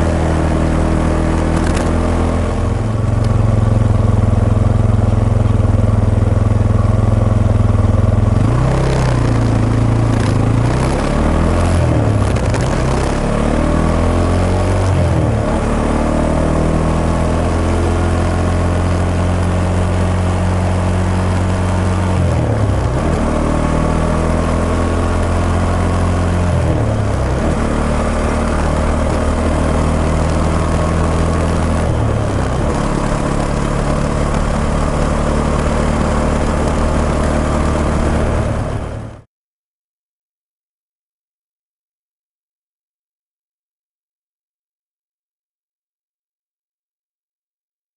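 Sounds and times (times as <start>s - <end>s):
motorcycle engine running: 0.0s - 39.3s.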